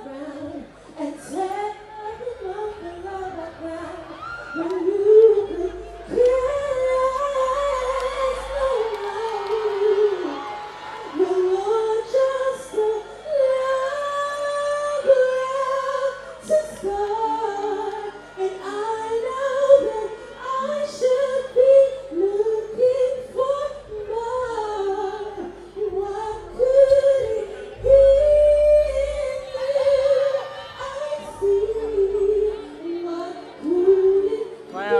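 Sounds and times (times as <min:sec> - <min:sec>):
woman singing into a microphone: 0:00.0 - 0:34.9.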